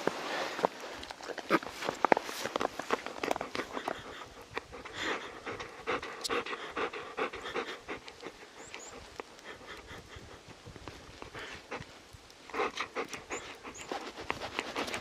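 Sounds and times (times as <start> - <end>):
dog panting: 2.7 - 15.0.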